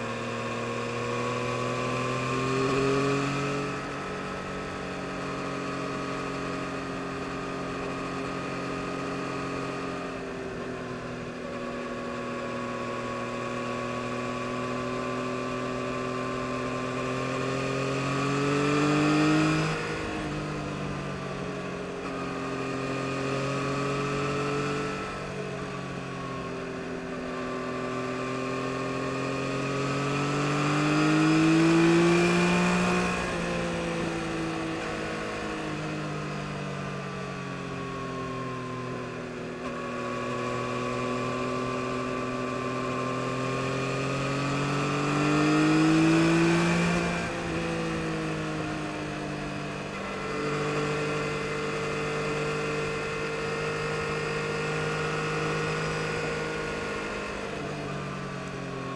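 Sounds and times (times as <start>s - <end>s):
motorcycle engine revving: 0.0s - 37.0s, 39.4s - 58.2s.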